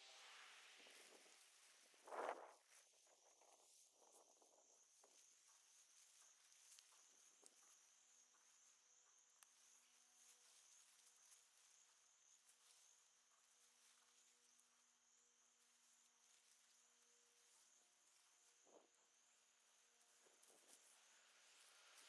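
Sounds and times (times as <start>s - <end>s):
high insect trill: 0.1s - 22.0s.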